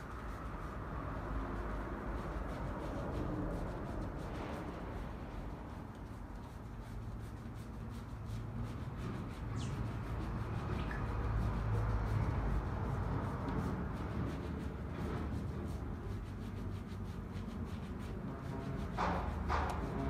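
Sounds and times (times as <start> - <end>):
fingers rubbing hair lather: 0.0 - 20.0.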